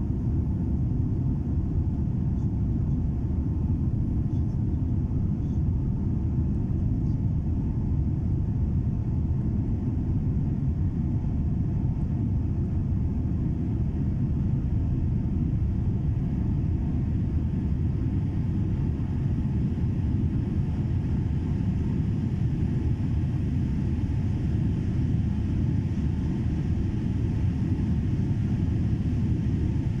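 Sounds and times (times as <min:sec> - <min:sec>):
jet engines rumbling on take-off: 0:00.2 - 0:30.0.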